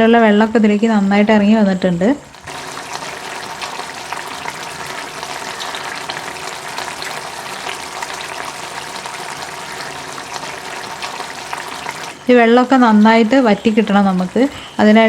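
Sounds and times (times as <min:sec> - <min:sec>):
chicken sizzling in a pan: 0:02.4 - 0:14.8.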